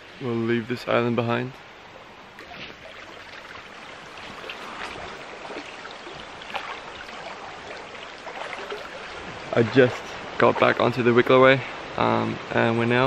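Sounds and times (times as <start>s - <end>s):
stream rushing over stones: 1.8s - 13.0s.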